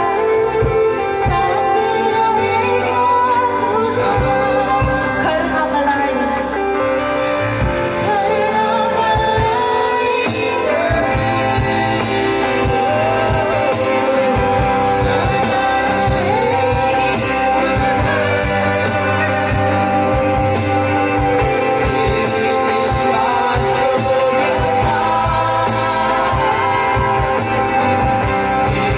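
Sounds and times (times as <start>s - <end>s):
worship song with instruments: 0.0s - 28.9s.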